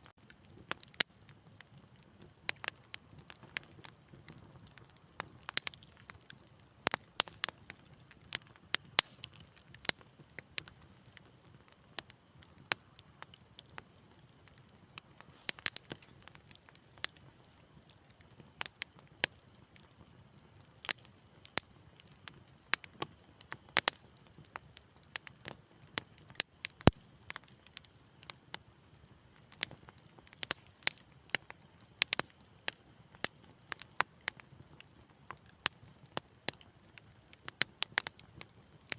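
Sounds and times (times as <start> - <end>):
wood fire crackling in fireplace: 0.0 - 38.9.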